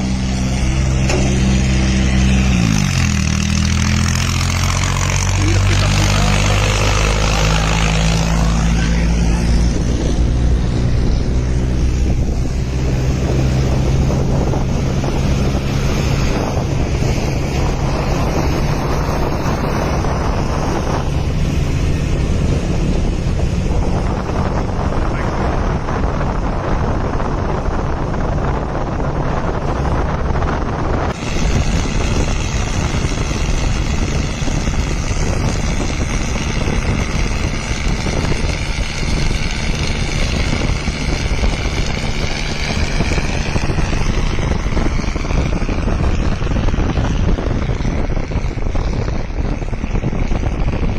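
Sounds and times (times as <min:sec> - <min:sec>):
tractor engine running: 0:00.0 - 0:50.9
wind on microphone: 0:00.0 - 0:50.9.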